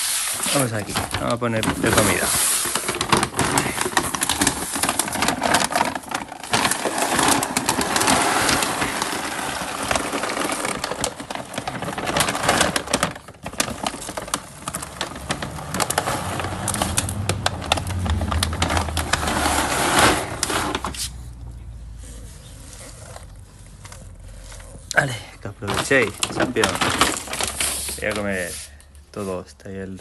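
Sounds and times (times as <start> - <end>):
dry kibble rattling from bag: 0.0 - 21.0, 22.5 - 28.5.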